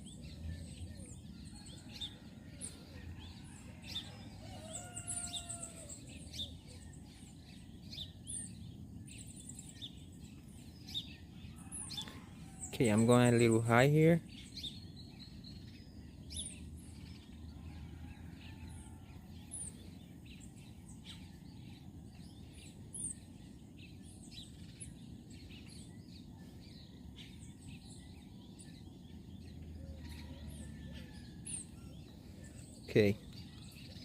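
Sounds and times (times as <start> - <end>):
low outdoor background hum: 0.0 - 34.0
small birds chirping: 0.0 - 34.0.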